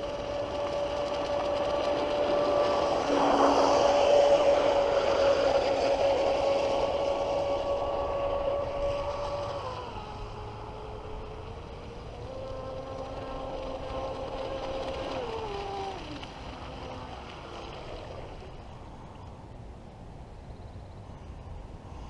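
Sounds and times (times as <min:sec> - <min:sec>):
electric boat motor whining: 0:00.0 - 0:18.7.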